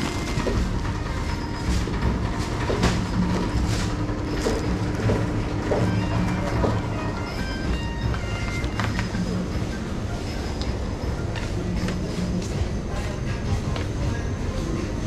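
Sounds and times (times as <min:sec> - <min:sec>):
supermarket interior hum: 0:00.0 - 0:15.0.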